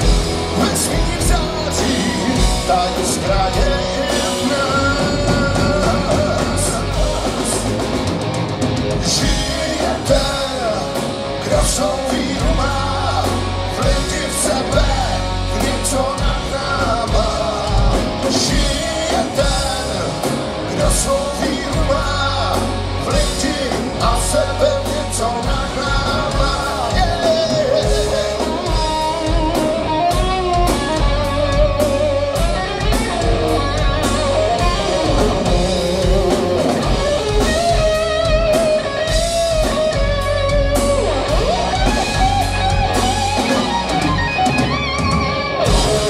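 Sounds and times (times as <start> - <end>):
heavy metal band playing live: 0.0 - 46.0.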